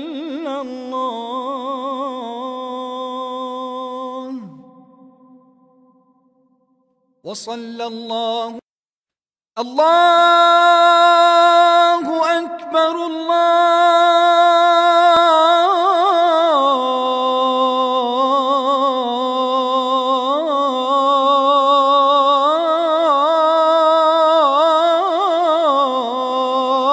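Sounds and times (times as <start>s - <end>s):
man chanting: 0.0s - 5.0s, 7.3s - 8.6s, 9.6s - 26.9s.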